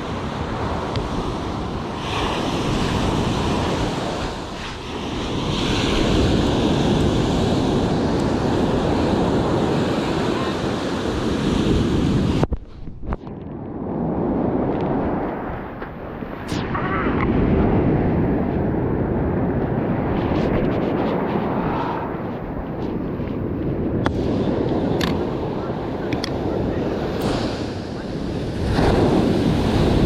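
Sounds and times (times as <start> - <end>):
surf breaking on shore: 0.0 - 13.1, 13.7 - 30.0
wind buffeting microphone: 0.0 - 30.0.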